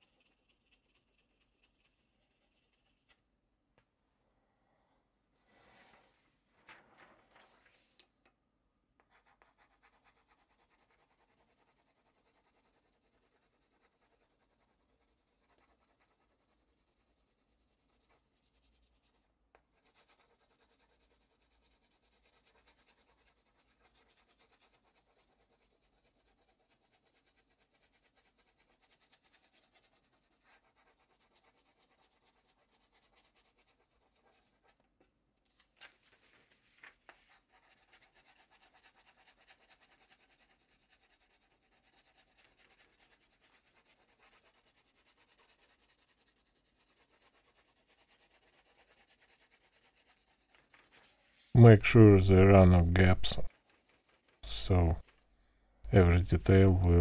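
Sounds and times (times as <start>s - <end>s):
graphite scratching on paper: 0.0s - 3.2s, 9.1s - 34.9s, 35.9s - 51.5s, 53.4s - 55.3s.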